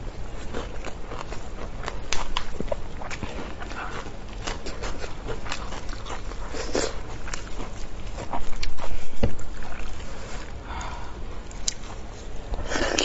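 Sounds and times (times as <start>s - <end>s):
wet biting and chewing: 0.3s - 10.6s, 11.5s - 13.0s.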